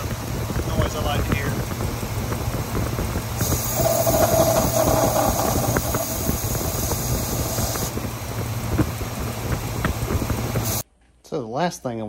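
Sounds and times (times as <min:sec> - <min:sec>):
engine running low hum: 0:00.0 - 0:10.8.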